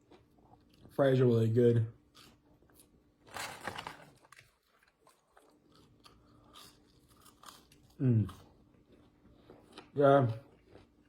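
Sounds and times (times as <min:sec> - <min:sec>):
crunching food: 0:00.0 - 0:11.0.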